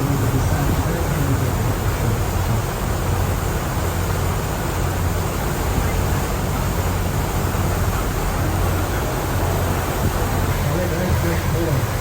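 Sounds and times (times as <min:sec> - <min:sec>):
boat engines droning: 0:00.0 - 0:12.0
water rushing: 0:00.0 - 0:12.0.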